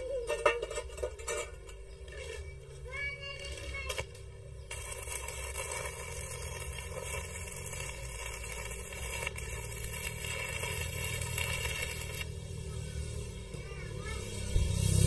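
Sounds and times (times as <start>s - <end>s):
welding arc crackling: 0.1s - 15.0s.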